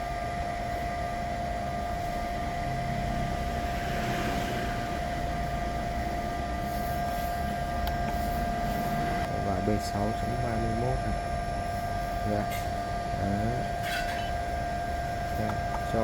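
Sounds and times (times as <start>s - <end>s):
steady electrical whine: 0.0s - 16.0s.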